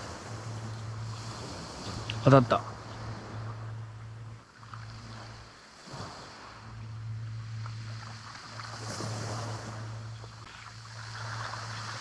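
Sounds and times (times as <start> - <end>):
steady low hum: 0.0 - 12.0
surf washing on shore: 0.0 - 12.0
wind on microphone: 0.0 - 12.0.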